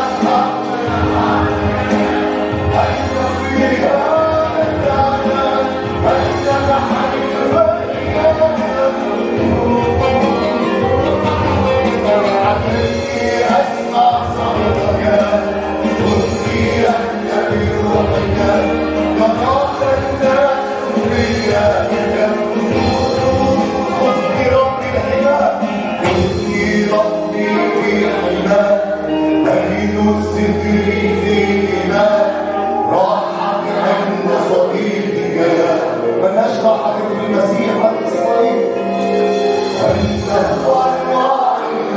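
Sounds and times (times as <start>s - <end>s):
choir singing worship song: 0.0s - 41.9s
instrumental backing: 0.0s - 41.9s.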